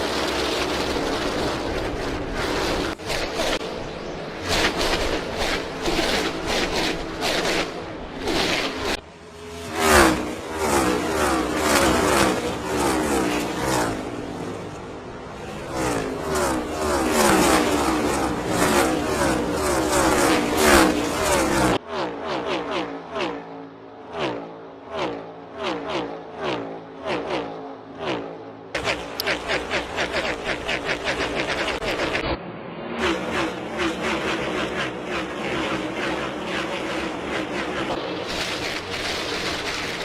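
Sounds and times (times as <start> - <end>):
race car engines passing by: 0.0 - 40.0.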